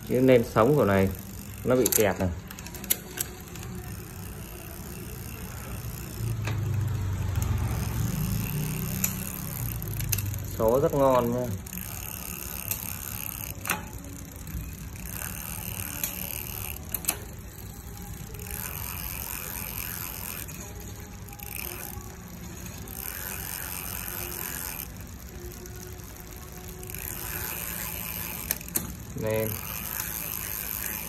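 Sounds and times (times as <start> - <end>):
bicycle chain whirring: 0.0 - 31.0
derailleur shifting clicks: 0.0 - 31.0.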